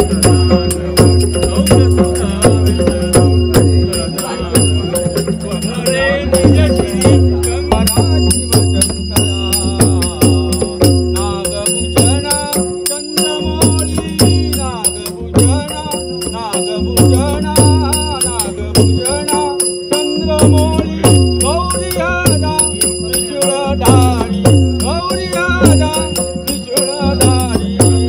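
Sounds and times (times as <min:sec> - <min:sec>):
drum beating steady rhythm: 0:00.0 - 0:28.0
hand cymbals clashing: 0:00.0 - 0:28.0.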